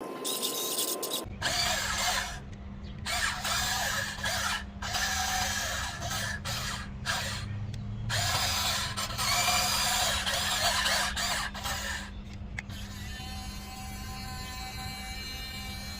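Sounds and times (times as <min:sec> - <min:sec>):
small electric motors whirring: 0:00.0 - 0:15.9
steady low hum: 0:01.2 - 0:15.9.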